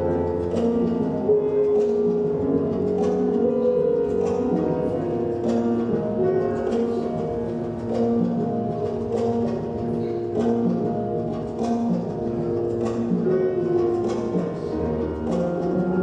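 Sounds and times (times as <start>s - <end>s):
calm instrumental music: 0.0s - 16.0s.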